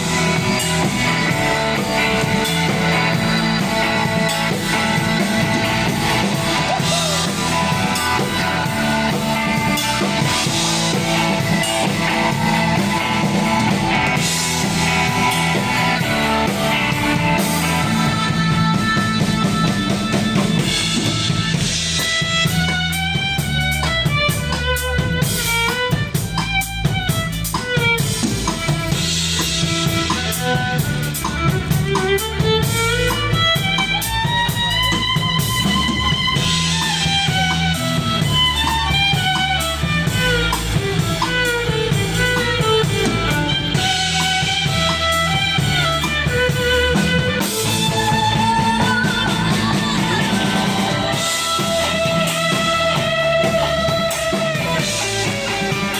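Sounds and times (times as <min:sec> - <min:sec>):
rock band playing: 0:00.0 - 0:55.9
sliding guitar lead line: 0:00.0 - 0:55.9.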